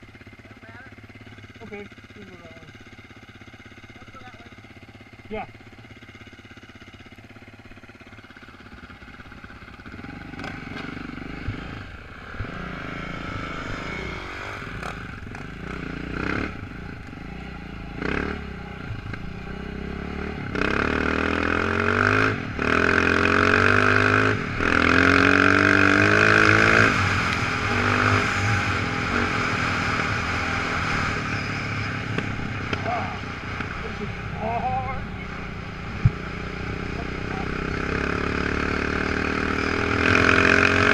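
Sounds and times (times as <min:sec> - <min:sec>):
off-road motorcycle engine revving: 0:00.0 - 0:40.9.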